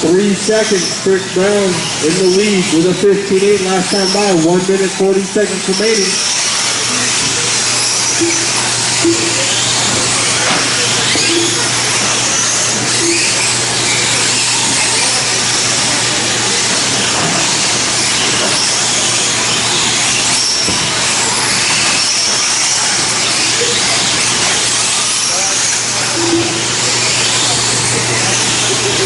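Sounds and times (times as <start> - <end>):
high motor whines: 0.0 - 29.0.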